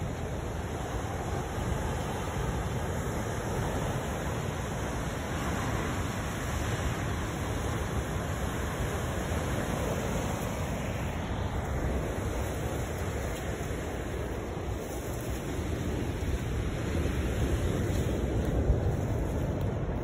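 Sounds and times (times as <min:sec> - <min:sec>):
ocean surf breaking: 0:00.0 - 0:20.0
wind rumbling on microphone: 0:00.0 - 0:20.0.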